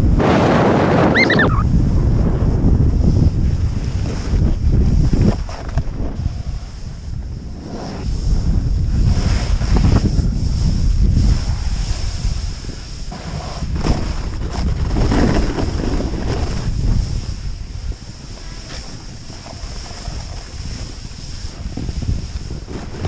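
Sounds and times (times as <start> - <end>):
wind on microphone: 0.0 - 23.0
snowboard scraping through snow: 0.1 - 23.0.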